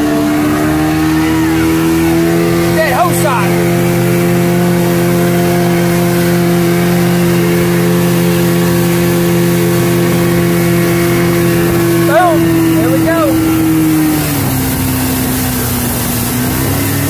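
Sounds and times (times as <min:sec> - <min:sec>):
churning wake water: 0:00.0 - 0:17.0
outboard motor running: 0:00.0 - 0:17.0
wind: 0:00.0 - 0:17.0.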